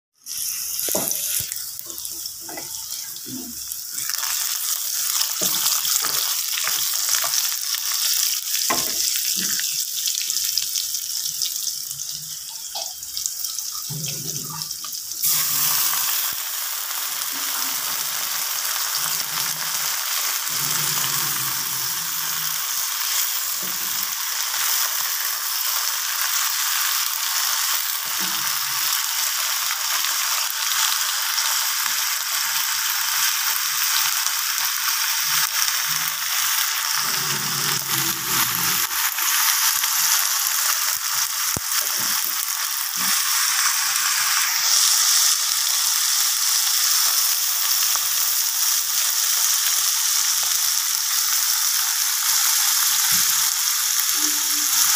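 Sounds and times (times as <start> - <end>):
oil sizzling in a wok: 0.2 - 54.9.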